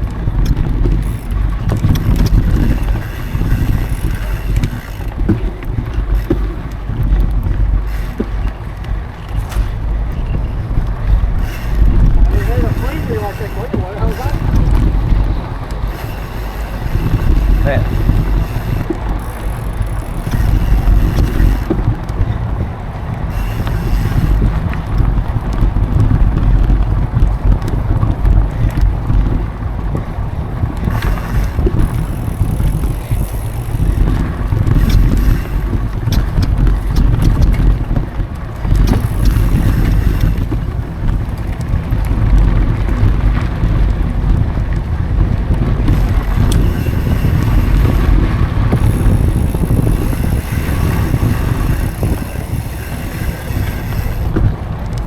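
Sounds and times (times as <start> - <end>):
bike clicks and rattles: 0.0 - 55.0
tyre noise on dirt: 0.0 - 55.0
wind buffeting microphone: 0.0 - 55.0.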